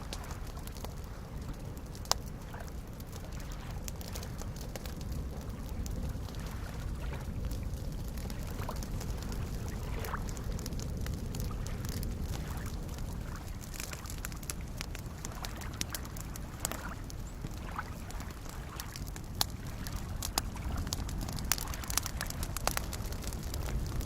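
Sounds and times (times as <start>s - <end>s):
campfire crackling and popping: 0.0s - 24.0s
small waves lapping: 0.0s - 24.0s.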